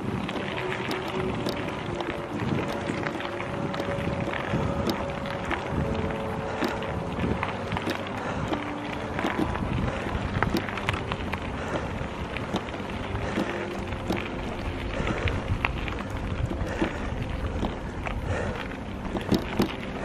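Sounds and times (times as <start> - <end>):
tricycle clicks and rattles: 0.0 - 20.0
tyres rumbling on tarmac: 0.0 - 20.0
wind buffeting microphone: 0.0 - 20.0.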